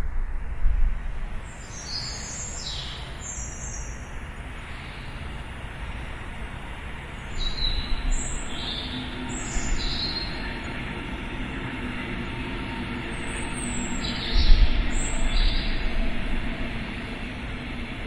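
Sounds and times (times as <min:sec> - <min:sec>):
city noise rumble: 0:00.0 - 0:18.0.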